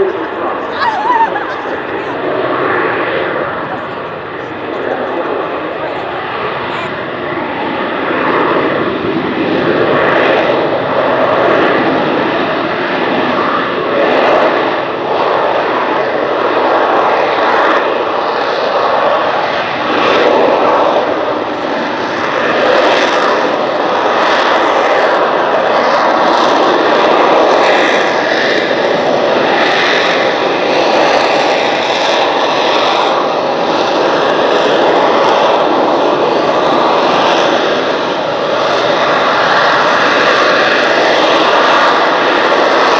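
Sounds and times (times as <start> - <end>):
jet engine roaring: 0.0 - 42.9.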